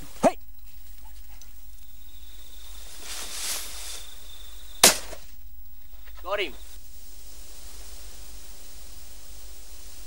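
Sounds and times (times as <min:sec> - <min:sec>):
vegetation rustling: 0:00.4 - 0:10.0.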